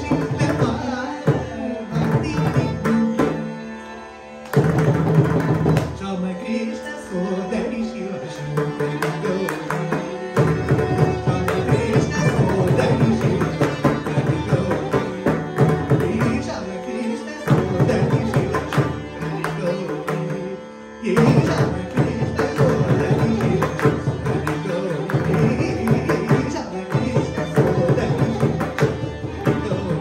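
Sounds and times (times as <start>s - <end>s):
man singing: 0.0s - 3.9s, 5.3s - 30.0s
violin: 0.0s - 30.0s.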